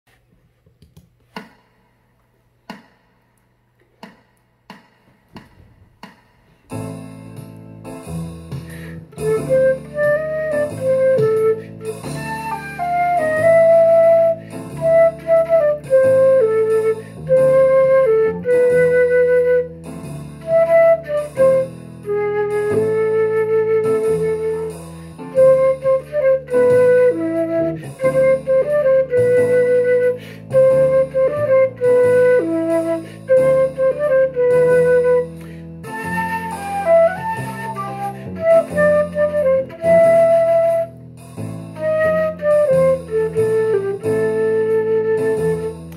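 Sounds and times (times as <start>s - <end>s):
flute melody: 8.0s - 45.9s.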